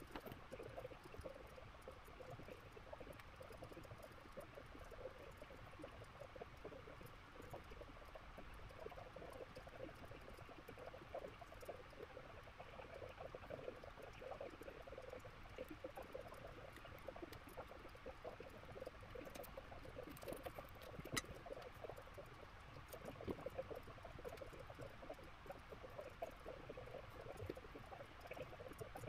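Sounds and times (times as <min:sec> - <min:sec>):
soldering ticks and crackles: 0:00.0 - 0:29.0.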